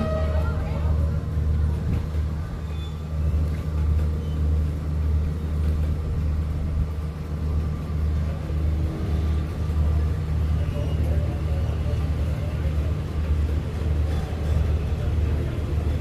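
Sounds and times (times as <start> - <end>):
diesel train engine rumble: 0.0 - 16.0.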